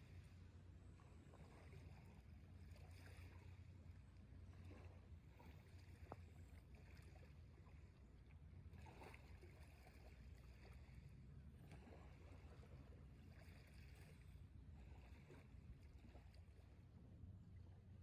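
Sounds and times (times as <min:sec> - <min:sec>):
faint low rumble: 0:00.0 - 0:18.0.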